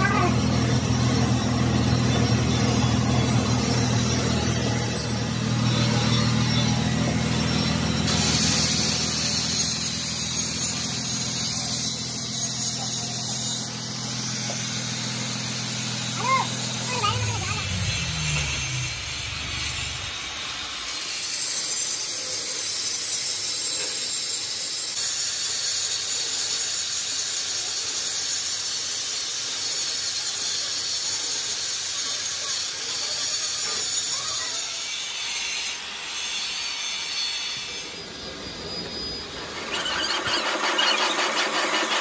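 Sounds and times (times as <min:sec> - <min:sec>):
angle grinder grinding metal: 0:00.0 - 0:42.0
lathe spinning pulsing sound: 0:00.0 - 0:42.0.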